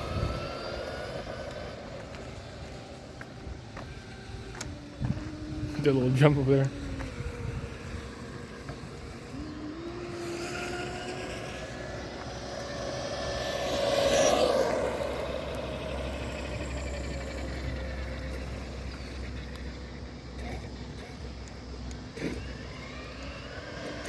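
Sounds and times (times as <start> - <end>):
rc car motor whining: 0.0 - 24.0.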